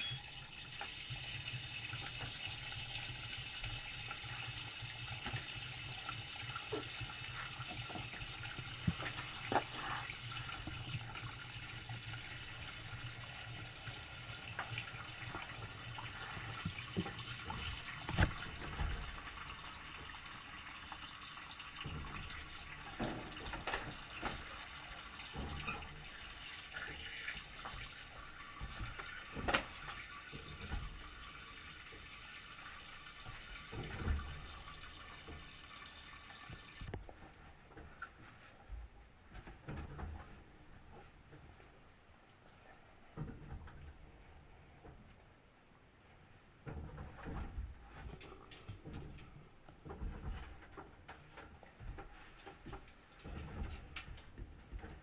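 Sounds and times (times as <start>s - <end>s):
water rushing into washing machine: 0.0s - 45.0s, 46.0s - 55.0s.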